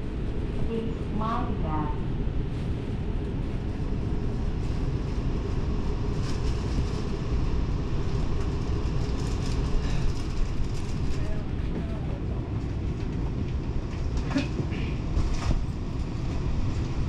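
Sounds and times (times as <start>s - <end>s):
train rumbling along track: 0.0s - 17.0s.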